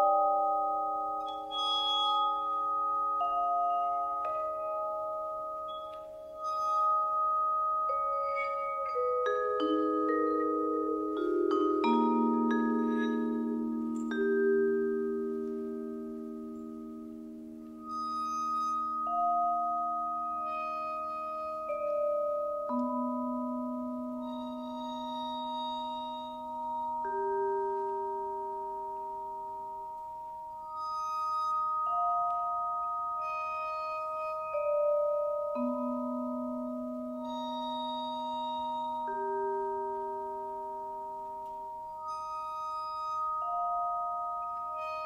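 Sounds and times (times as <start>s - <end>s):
vibraphone notes ringing: 0.0s - 45.0s.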